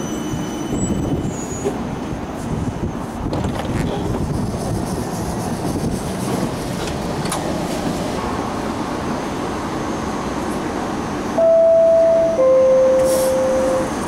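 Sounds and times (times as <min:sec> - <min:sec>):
street noise: 0:00.0 - 0:14.0
tram rumbling: 0:00.0 - 0:14.0.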